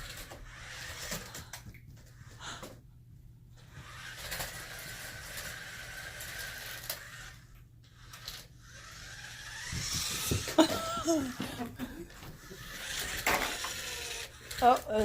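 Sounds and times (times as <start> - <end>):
toy car motor whirring: 0.0 - 1.6, 3.6 - 15.0.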